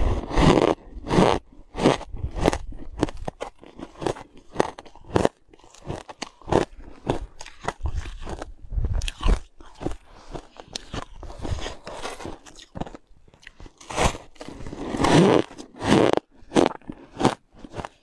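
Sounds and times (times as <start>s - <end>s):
ice being chewed: 0.0s - 18.0s.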